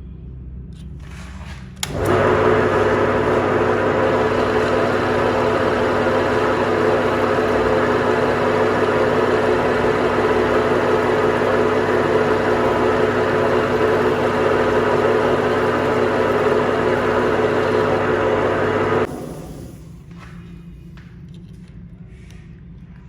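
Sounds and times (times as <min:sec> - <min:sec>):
workshop machine humming: 0:01.8 - 0:20.4.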